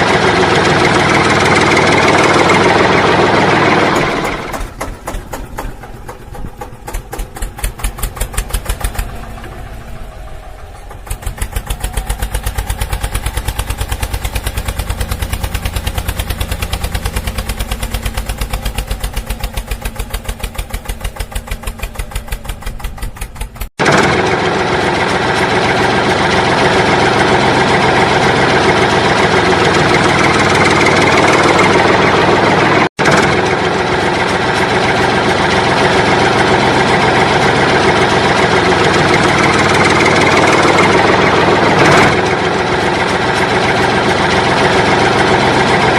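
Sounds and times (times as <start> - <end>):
loud noisy engine: 0.0 - 45.9
vehicle engine idling: 0.0 - 45.9.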